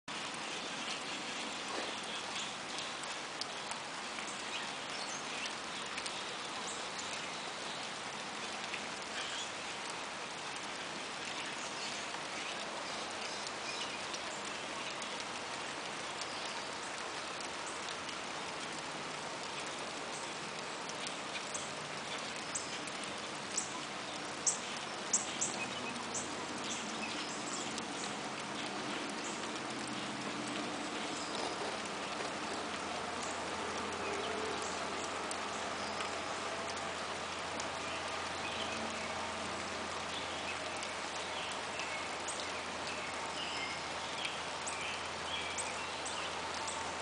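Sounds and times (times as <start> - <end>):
steady rain on creek: 0.0 - 47.0
sharp rain ticks: 0.1 - 47.0.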